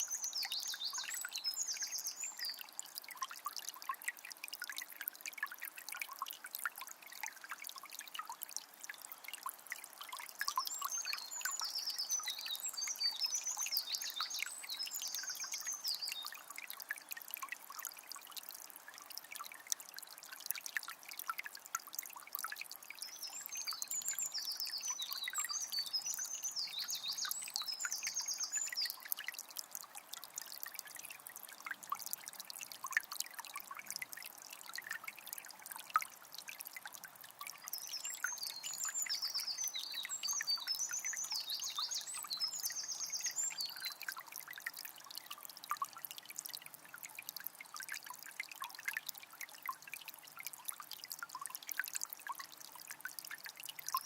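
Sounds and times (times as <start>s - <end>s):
spring water trickling: 0.0s - 54.0s.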